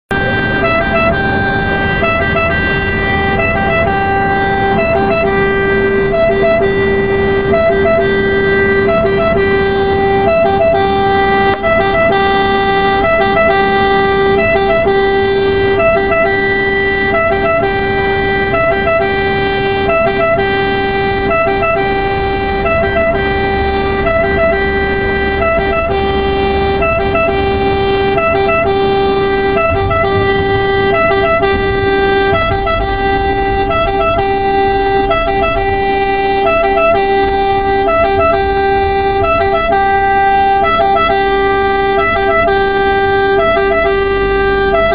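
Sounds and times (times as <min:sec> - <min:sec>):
ambulance siren: 0:00.0 - 0:44.9
engine and road rumble: 0:00.0 - 0:44.9.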